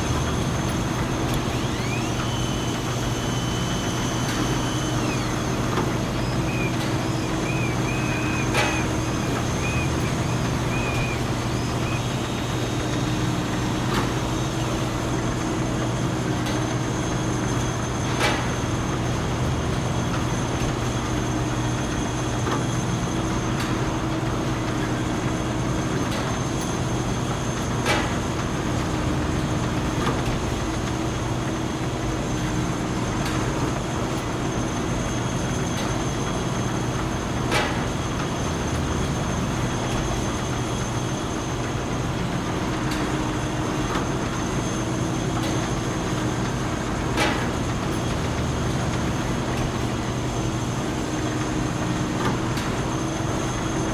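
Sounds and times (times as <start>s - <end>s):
factory machinery hum and whine: 0.0s - 53.9s.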